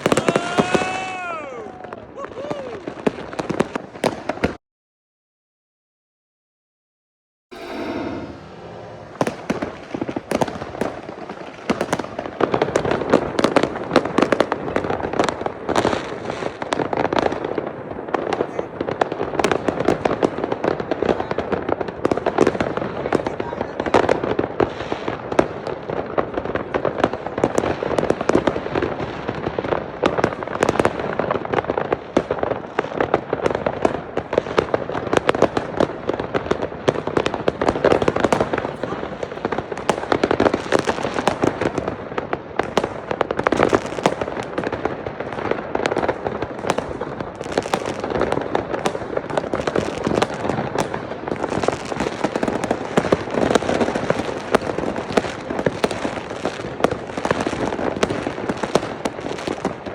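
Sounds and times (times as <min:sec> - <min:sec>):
fireworks and firecrackers banging: 0:00.0 - 0:04.6, 0:07.6 - 0:59.9.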